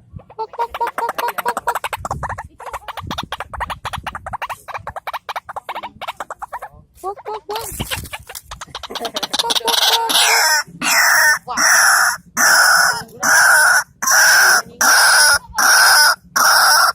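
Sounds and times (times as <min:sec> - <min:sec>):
bird harsh rasping calls: 0:00.0 - 0:16.9.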